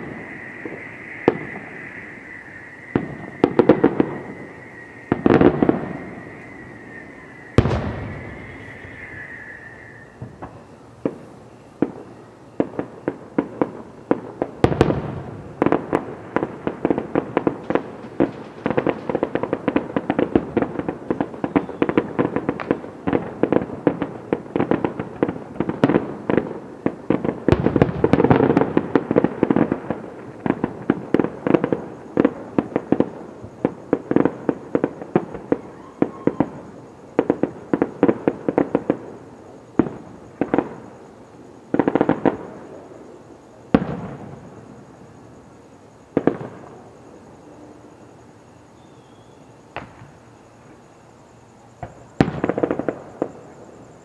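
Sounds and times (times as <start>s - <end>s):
fireworks bangs and cracks: 0.0s - 45.2s, 46.1s - 47.4s, 49.7s - 50.2s, 51.8s - 54.0s
deep fireworks booms: 0.0s - 48.0s, 51.7s - 54.0s.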